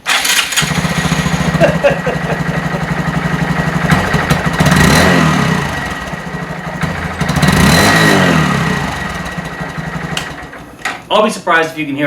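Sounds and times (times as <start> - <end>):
motorcycle engine idling and revving: 0.0 - 10.8.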